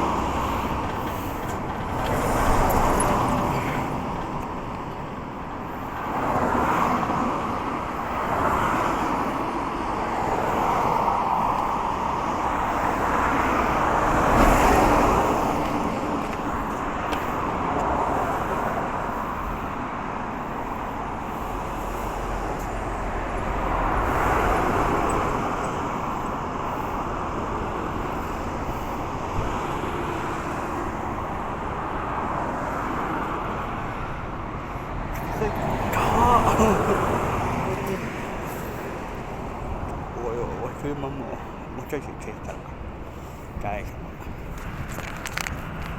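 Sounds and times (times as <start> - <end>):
road traffic passing: 0.0 - 45.9.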